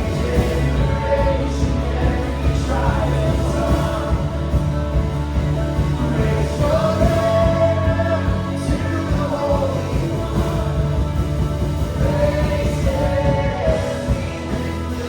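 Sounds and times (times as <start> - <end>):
rock worship band playing: 0.0 - 15.0
singers holding long notes: 0.0 - 15.0.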